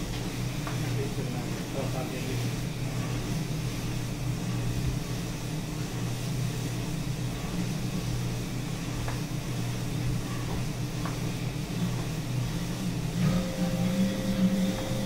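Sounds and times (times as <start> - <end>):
machine and cooling fans humming: 0.0 - 15.0.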